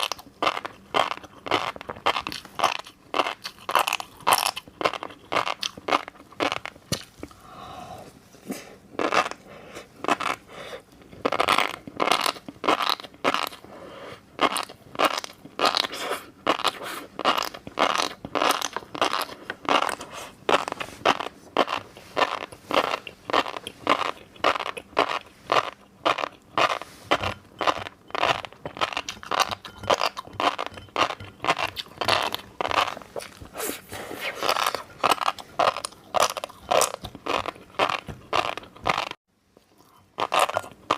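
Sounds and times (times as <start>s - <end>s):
chewing crunchy fish roe: 0.0s - 7.4s, 8.9s - 40.9s.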